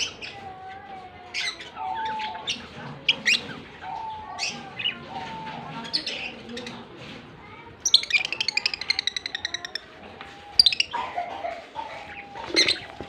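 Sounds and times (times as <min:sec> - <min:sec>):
lovebirds chattering: 0:01.2 - 0:13.0.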